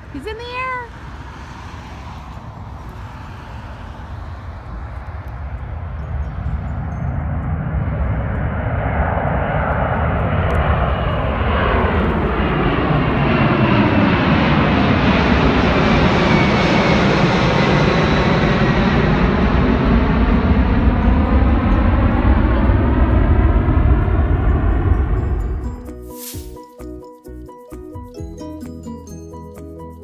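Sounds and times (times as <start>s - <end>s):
jet airliner engine roar: 0.0s - 26.5s.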